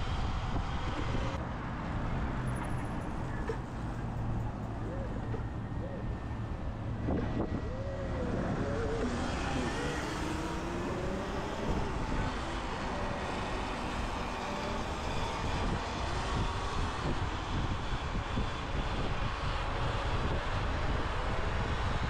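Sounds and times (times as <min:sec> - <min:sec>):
wind rushing over microphone: 0:00.0 - 0:01.4, 0:04.2 - 0:22.0.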